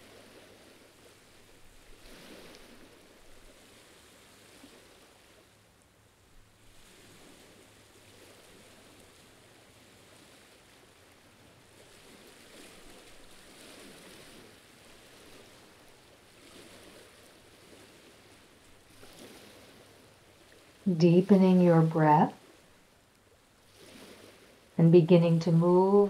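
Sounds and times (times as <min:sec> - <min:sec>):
waves lapping against rock: 0:00.0 - 0:05.7, 0:06.3 - 0:20.9, 0:21.8 - 0:24.8.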